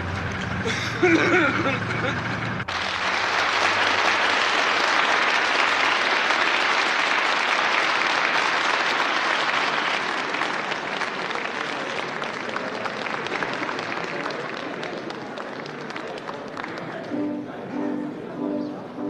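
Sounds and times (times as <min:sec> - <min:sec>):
large audience applauding: 0:00.0 - 0:17.6.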